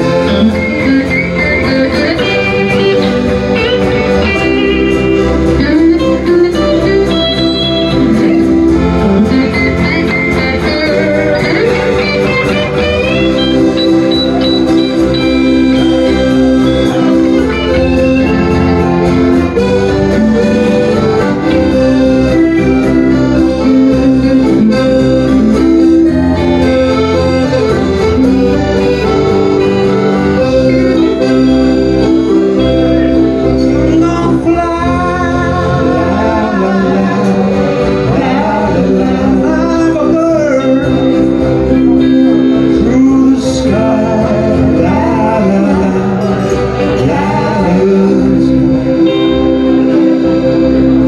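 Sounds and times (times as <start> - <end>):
accordion chords: 0.0 - 51.0
electric guitar: 0.0 - 51.0
strummed acoustic guitar: 0.0 - 51.0.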